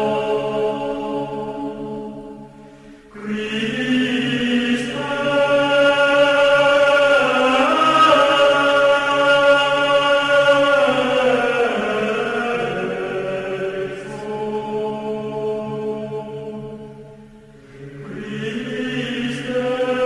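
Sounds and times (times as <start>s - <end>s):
sustained choir-like vocal chords: 0.0s - 20.0s.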